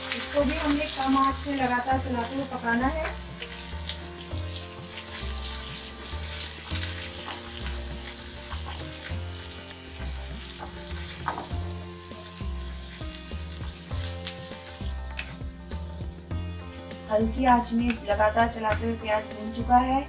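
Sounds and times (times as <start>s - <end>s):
onion sizzling in oil: 0.0s - 20.0s.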